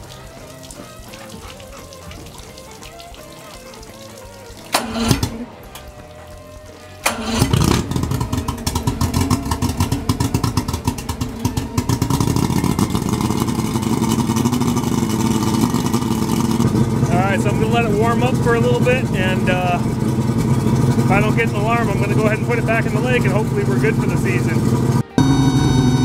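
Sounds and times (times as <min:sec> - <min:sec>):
outboard motor cranking: 0:00.0 - 0:26.0
outboard motor running: 0:00.0 - 0:26.0.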